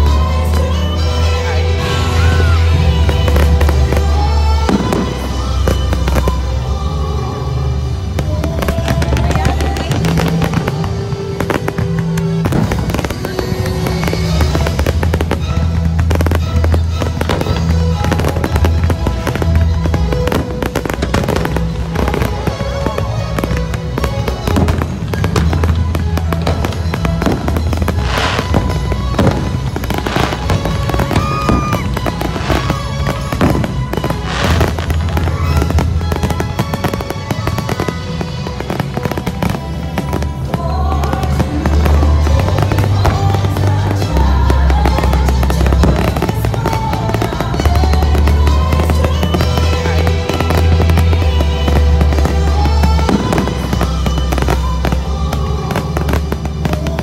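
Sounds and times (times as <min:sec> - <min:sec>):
fireworks bursting: 0:00.0 - 0:57.0
loud music with heavy bass: 0:00.0 - 0:57.0.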